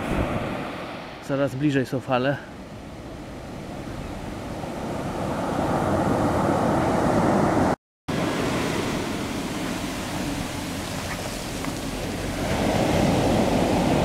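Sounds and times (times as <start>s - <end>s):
surf breaking on beach: 0.0s - 1.4s, 3.6s - 14.0s.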